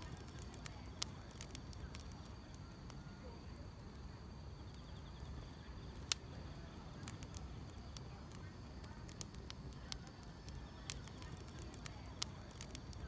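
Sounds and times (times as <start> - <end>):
sharp pops of fire: 0.0 - 3.1, 3.8 - 13.0
wood fire crackling: 0.0 - 13.0.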